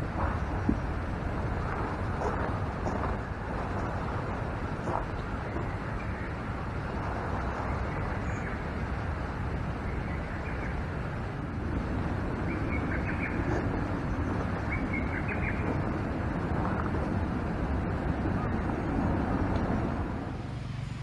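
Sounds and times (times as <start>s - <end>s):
small birds chirping: 0.0s - 20.2s
rushing outdoor background noise: 0.0s - 21.0s.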